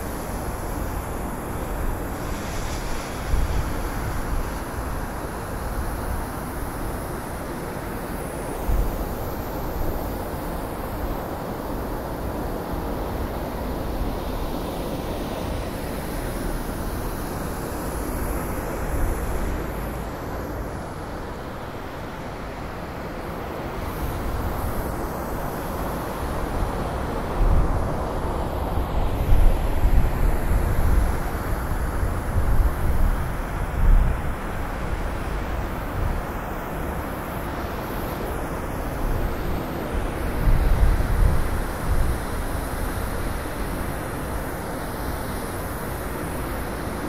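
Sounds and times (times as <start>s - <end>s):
blizzard wind blowing: 0.0s - 47.0s.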